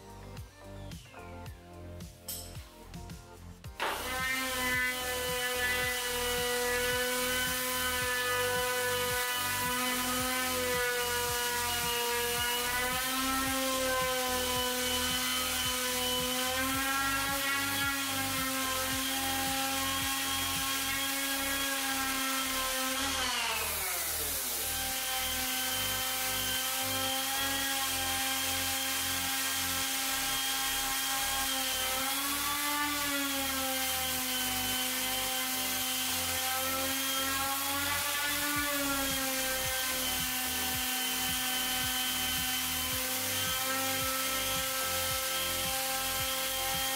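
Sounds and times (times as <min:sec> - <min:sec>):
orbital sander whine: 0:03.7 - 0:46.9.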